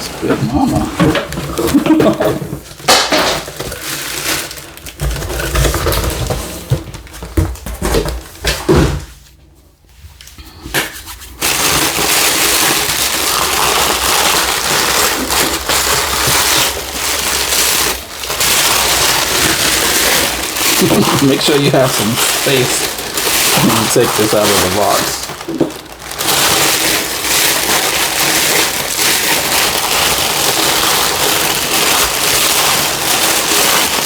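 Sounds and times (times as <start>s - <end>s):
paper packing wrap crinkling: 0.0s - 8.7s, 10.7s - 34.0s.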